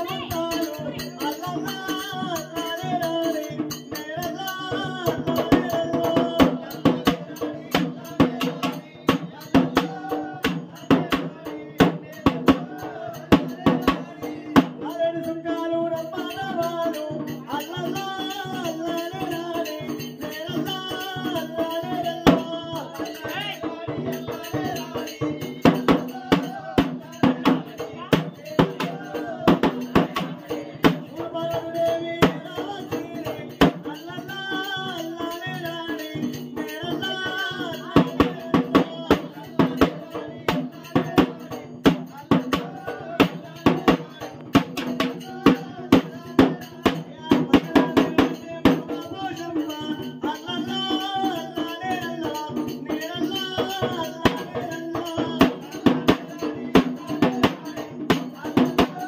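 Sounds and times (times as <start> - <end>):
folk singing through a microphone: 0.0 - 59.0
large drum beaten with a stick: 0.0 - 59.0.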